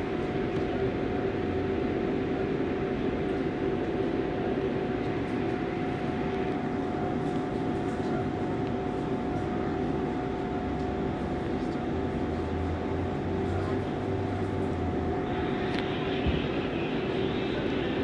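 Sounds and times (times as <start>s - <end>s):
subway car hum: 0.0s - 18.0s.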